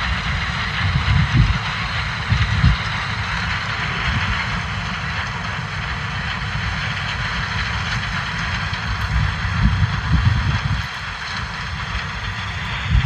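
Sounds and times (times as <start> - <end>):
combine harvester droning: 0.0 - 13.0
low uneven rumble: 0.0 - 13.0.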